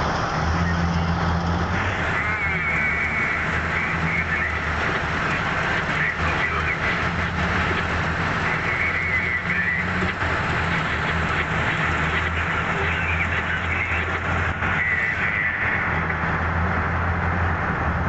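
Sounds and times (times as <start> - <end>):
high whine: 0.0 - 16.6
heavy diesel engine drone: 0.0 - 18.0.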